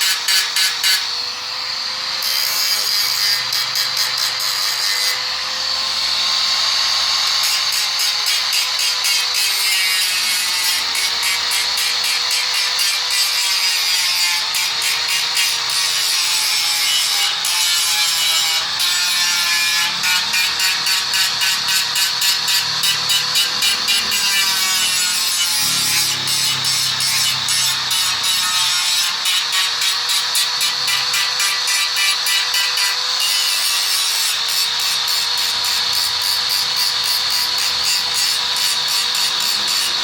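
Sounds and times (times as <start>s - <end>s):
hand file rasping on steel: 0.0s - 1.1s, 7.4s - 40.0s.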